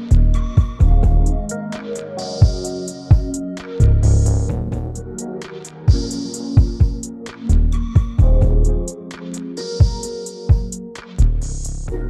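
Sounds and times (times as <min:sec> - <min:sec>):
instrumental music with drums and guitar: 0:00.0 - 0:12.0.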